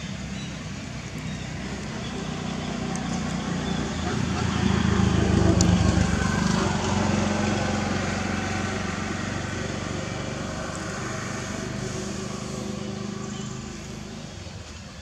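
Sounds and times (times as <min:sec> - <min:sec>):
small engine running: 0:01.4 - 0:14.4.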